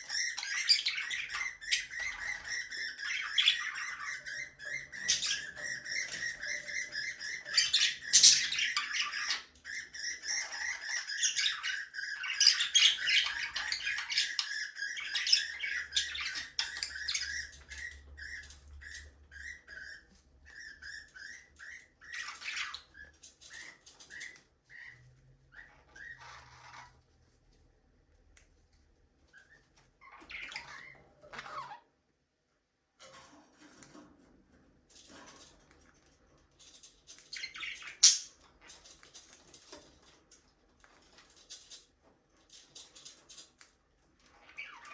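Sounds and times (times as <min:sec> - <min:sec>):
budgerigars chirping and chattering: 0:00.0 - 0:27.2, 0:29.0 - 0:31.9, 0:34.9 - 0:44.9.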